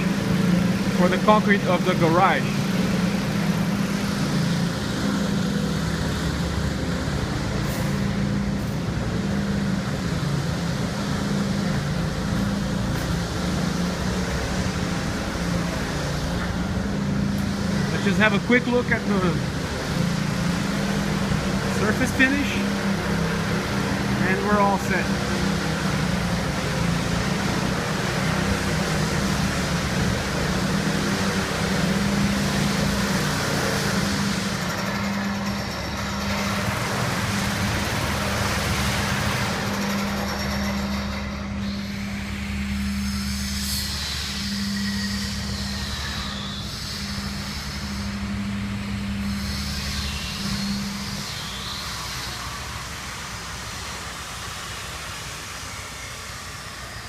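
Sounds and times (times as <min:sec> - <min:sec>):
deeper engine hum: 0:00.0 - 0:51.8
power trowel engine running: 0:00.0 - 0:57.0.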